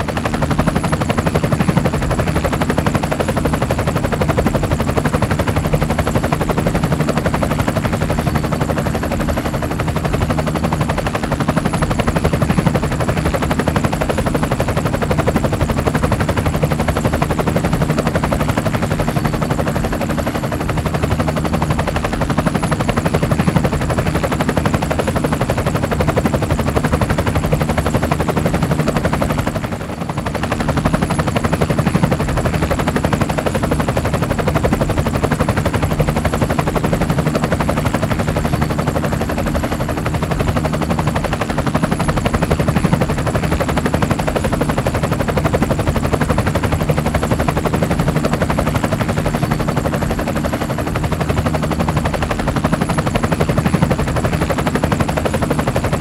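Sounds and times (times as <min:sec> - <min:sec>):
helicopter engine hum: 0:00.0 - 0:56.0
helicopter rotor chop: 0:00.0 - 0:56.0.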